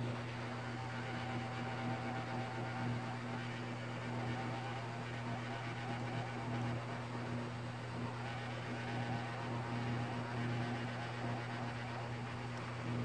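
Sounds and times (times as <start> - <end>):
hot air blower humming: 0.0 - 13.0.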